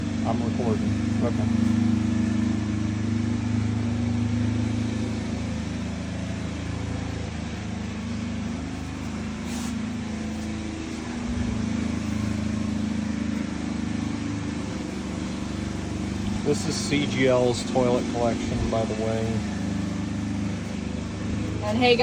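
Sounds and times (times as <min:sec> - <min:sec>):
motor droning: 0:00.0 - 0:22.0.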